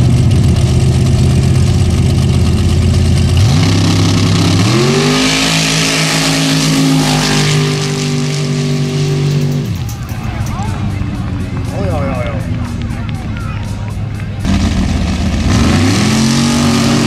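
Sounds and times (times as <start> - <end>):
racing engines revving: 0.0 - 17.0.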